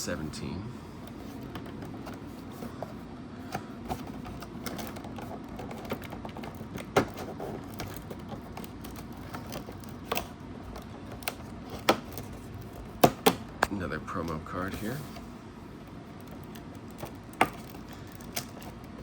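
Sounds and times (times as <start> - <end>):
cardboard and plastic clicks: 1.1 - 14.4, 16.1 - 19.0.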